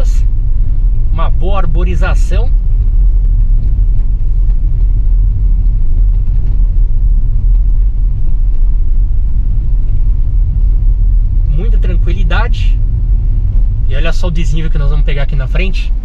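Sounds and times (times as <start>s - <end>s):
car interior driving rumble: 0.0s - 16.0s.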